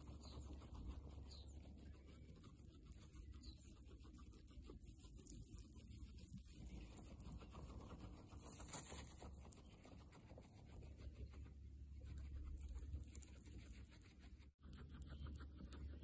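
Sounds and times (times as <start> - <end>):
guinea pig chewing grass: 0.0 - 16.0.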